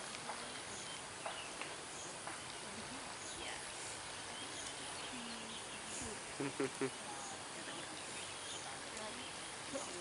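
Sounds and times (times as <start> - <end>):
faint bird calls: 0.4 - 10.0.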